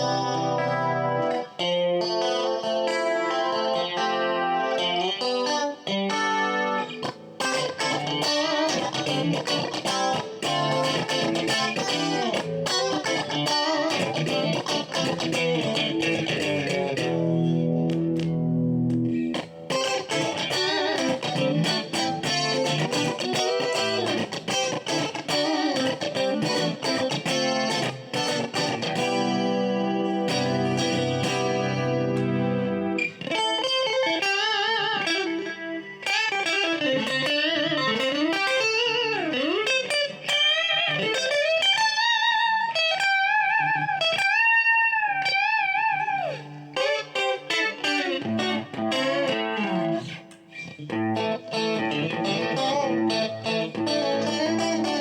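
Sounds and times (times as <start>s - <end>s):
clean electric guitar: 0.0s - 55.0s.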